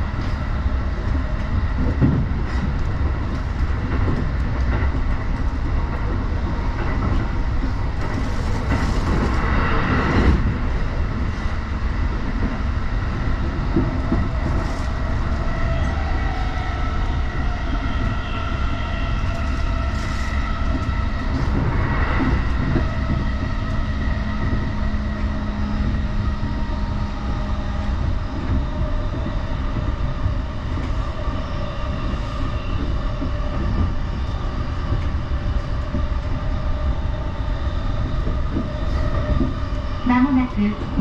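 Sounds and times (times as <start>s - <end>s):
wheels rumbling on rail: 0.0s - 41.0s.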